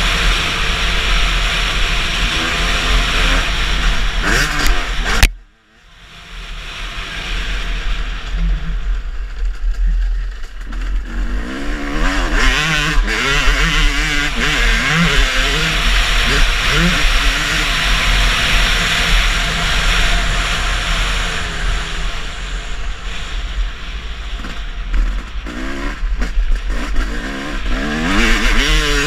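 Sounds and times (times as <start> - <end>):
motocross bike engine revving: 0.0 - 5.4, 10.0 - 29.0.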